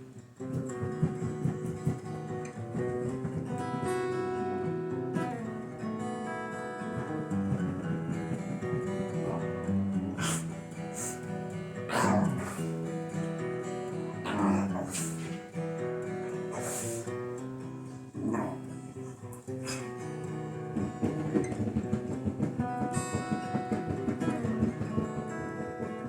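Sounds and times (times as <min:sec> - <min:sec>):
acoustic guitar chords: 0:00.0 - 0:26.0.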